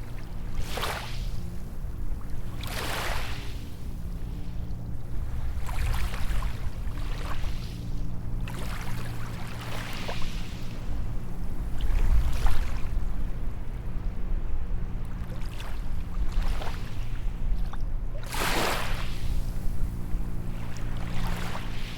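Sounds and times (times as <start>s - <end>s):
small waves washing up a beach: 0.0s - 1.6s, 2.3s - 4.6s, 5.3s - 13.5s, 15.2s - 17.3s, 18.2s - 21.9s
steady low rumble: 0.0s - 21.9s.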